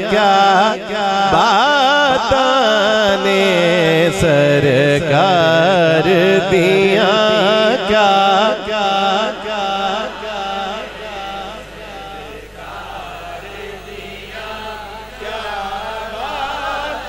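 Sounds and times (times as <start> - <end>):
men chanting wavering melody: 0.0 - 17.0.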